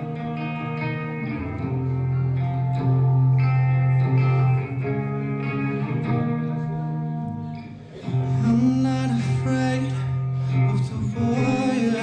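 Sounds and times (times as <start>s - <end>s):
guitar chords ringing: 0.0s - 12.0s.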